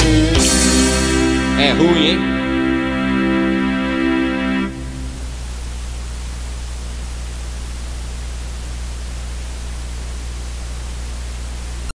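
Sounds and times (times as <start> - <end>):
low even hum: 2.2 - 11.9.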